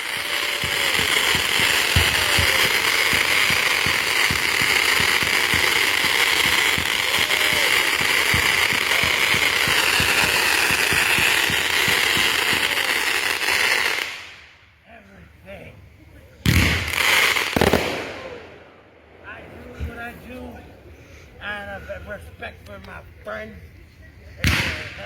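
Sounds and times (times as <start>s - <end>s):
fireworks crackling and popping: 0.0s - 14.7s, 16.0s - 23.7s, 24.3s - 25.0s.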